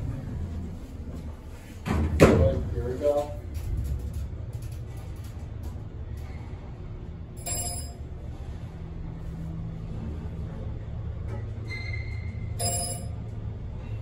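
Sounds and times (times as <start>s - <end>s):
elevator hum and rumble: 0.0s - 14.0s.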